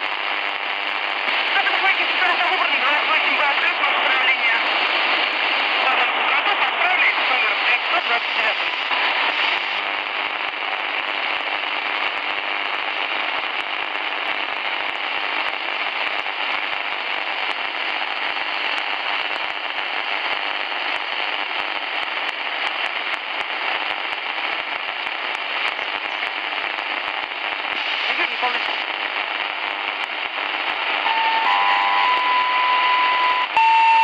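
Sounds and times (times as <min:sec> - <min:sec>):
radio band hiss: 0:00.0 - 0:34.0
static crackles: 0:00.0 - 0:34.0.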